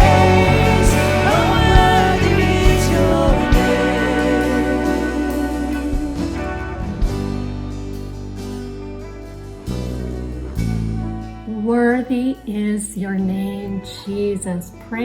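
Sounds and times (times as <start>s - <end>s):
worship band music: 0.0s - 13.4s.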